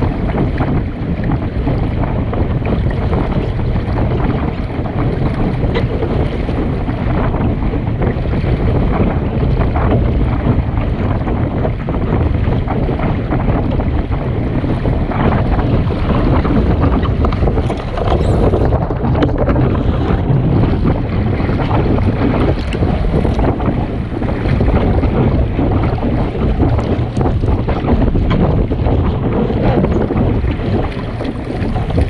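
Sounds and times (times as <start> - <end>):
water rushing along hull: 0.0 - 32.0
wind buffeting microphone: 0.0 - 32.0.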